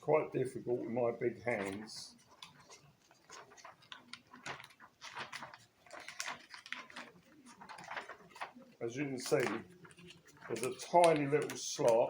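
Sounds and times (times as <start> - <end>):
plastic clicks and crackles: 1.5 - 12.0.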